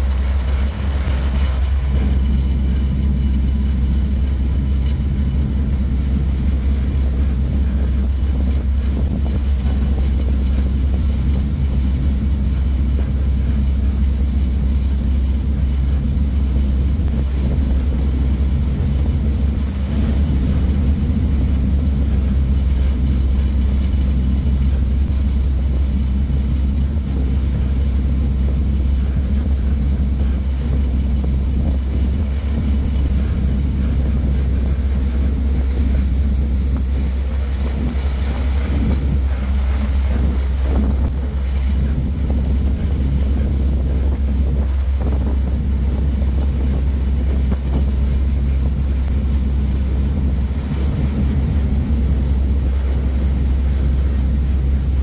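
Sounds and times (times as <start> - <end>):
ferry engines droning: 0.0 - 55.0.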